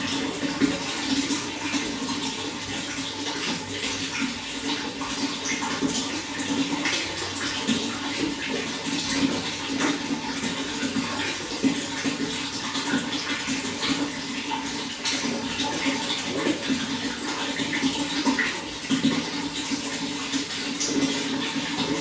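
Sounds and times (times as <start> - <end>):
running water splashing: 0.0 - 22.0.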